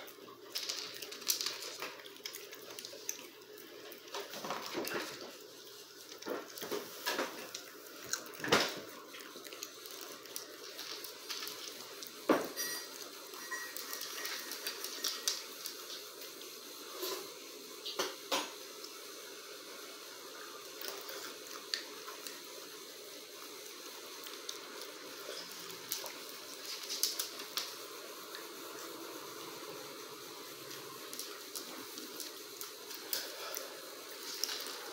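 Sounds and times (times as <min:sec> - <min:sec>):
raccoon chewing peanuts: 0:00.0 - 0:17.3, 0:20.4 - 0:34.9.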